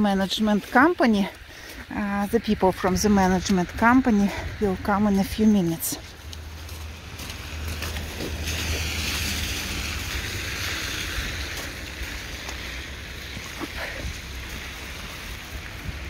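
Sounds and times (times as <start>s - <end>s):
wet footsteps in slush: 0.0s - 16.0s
wet street hiss: 0.2s - 16.0s
wind rumble on microphone: 0.9s - 16.0s.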